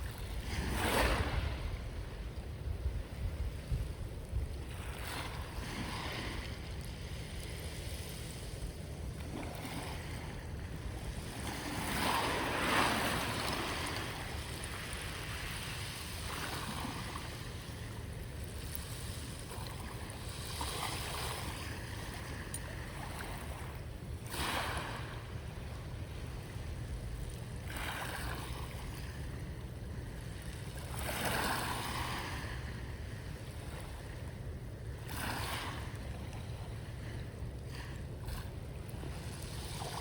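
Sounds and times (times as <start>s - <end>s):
sea waves washing ashore: 0.0s - 40.0s
wind rumble on microphone: 0.0s - 40.0s.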